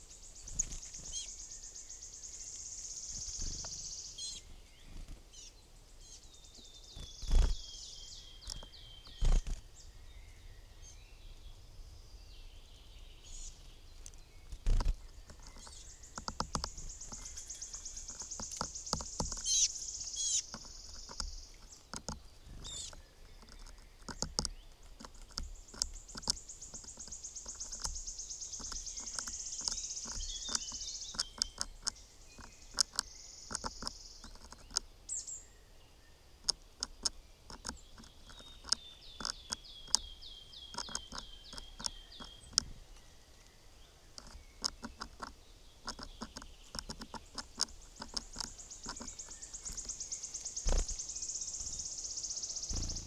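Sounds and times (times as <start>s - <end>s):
rapid bird trills: 0.0s - 11.4s, 12.2s - 53.0s
small birds singing and chirping: 0.0s - 53.0s
birds pecking sharp taps: 2.5s - 5.3s, 6.6s - 9.7s, 13.3s - 35.1s, 36.4s - 53.0s.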